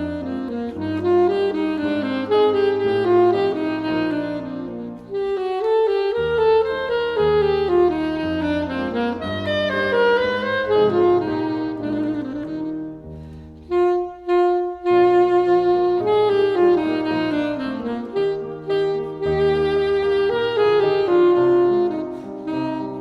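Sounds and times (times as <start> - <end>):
piano accompaniment: 0.0 - 23.0
saxophone melody: 0.0 - 23.0.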